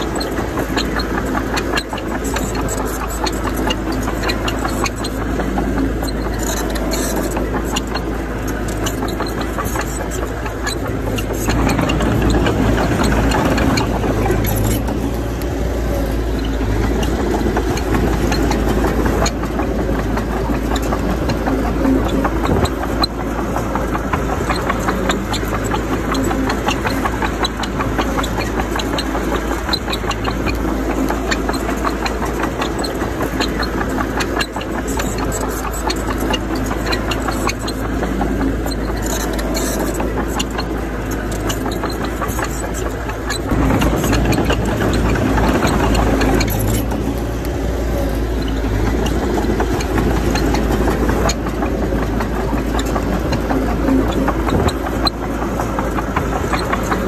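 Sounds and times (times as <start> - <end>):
diesel engine running: 0.0 - 57.0
knocks and rattles: 0.0 - 57.0.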